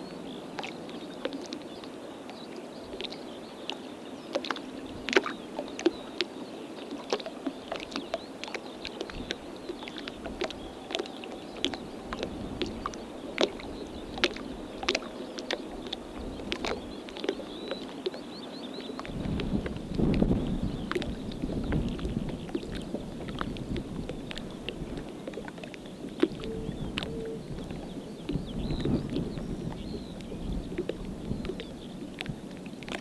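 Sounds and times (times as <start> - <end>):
ripples lapping water: 0.0 - 33.0.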